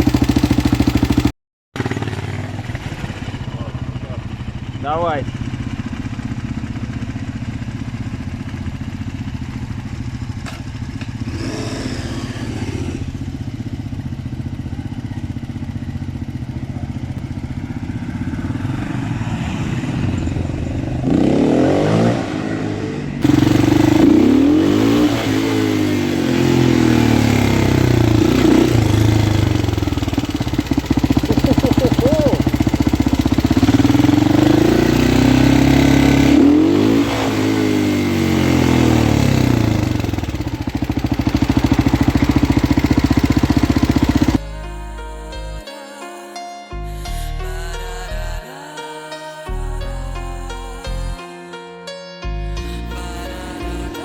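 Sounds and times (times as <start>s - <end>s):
motorcycle engine revving: 0.0s - 44.6s.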